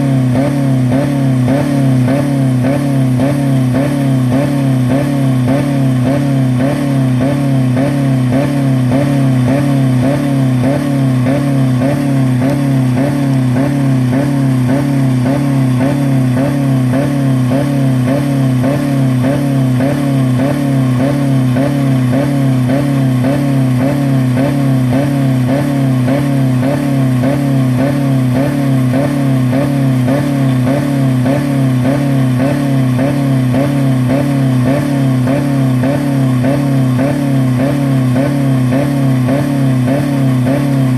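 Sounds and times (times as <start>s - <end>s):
car engine revving at limiter: 0.0s - 40.9s.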